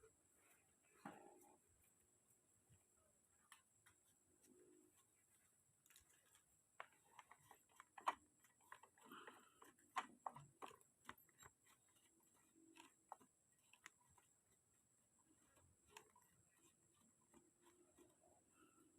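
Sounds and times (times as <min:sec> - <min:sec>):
faint clicks and taps: 0:00.4 - 0:18.9.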